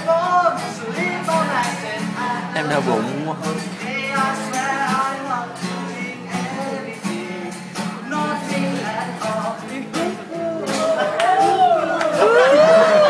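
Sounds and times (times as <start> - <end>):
acoustic guitar strumming: 0.0 - 13.0
person singing: 0.0 - 13.0.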